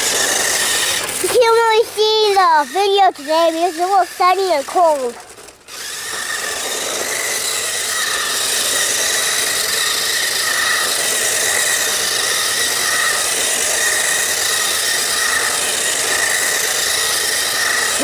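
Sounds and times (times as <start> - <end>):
electric motor whining: 0.0 - 18.0.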